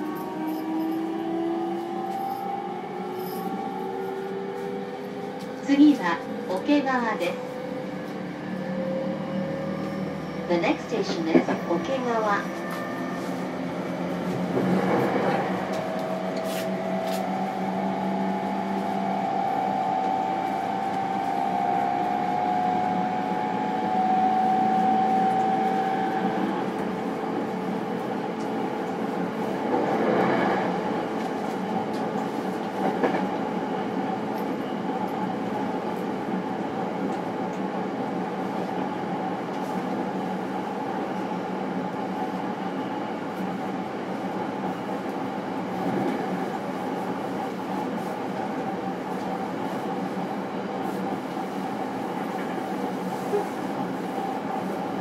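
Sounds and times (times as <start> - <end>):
electric train inverter whine: 0.0 - 55.0
train wheels on rails: 0.0 - 55.0.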